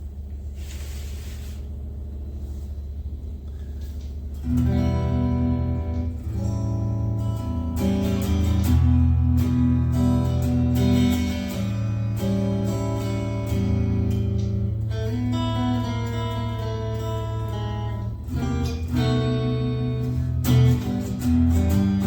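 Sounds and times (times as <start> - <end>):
speaker hum: 0.0 - 22.0
electric guitar chords: 4.0 - 22.0.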